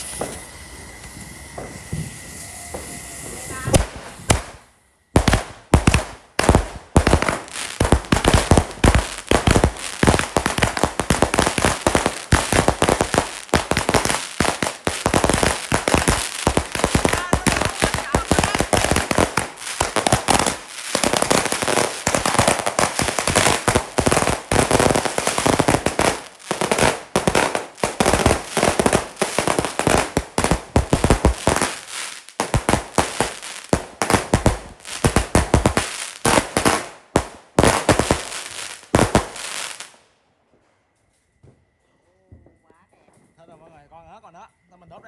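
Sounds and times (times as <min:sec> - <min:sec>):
fireworks bangs and crackling: 0:00.0 - 0:40.7.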